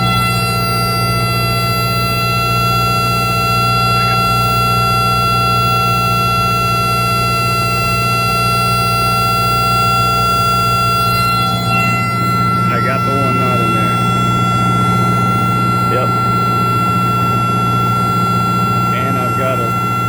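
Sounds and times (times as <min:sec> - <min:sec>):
high-pitched steady tone: 0:00.0 - 0:20.0
aircraft engine and propeller drone: 0:02.3 - 0:20.0.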